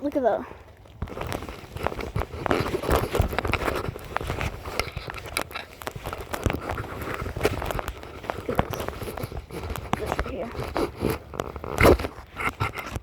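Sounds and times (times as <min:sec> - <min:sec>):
footsteps on wet ground: 0:00.0 - 0:12.8.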